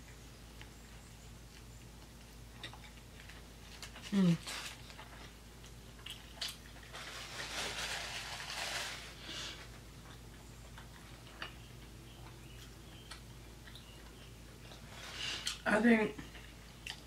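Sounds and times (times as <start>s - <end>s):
person chewing food: 0.0s - 15.6s, 16.2s - 17.0s.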